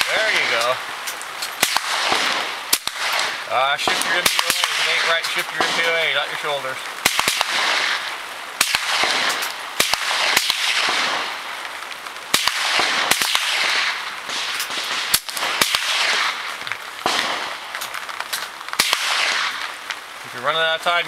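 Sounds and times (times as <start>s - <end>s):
rifle shots with echo: 0.0s - 0.8s, 1.4s - 11.7s, 12.3s - 19.8s.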